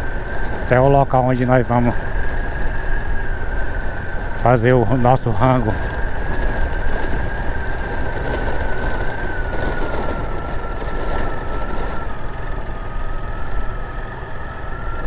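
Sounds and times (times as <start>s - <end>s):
motorcycle engine running: 0.0s - 13.3s
road and wind noise: 0.0s - 15.0s.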